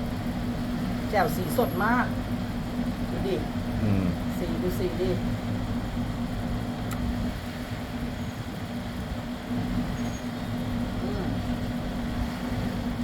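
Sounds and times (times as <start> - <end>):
low engine-like hum: 0.0 - 13.0
outdoor background noise: 0.0 - 13.0.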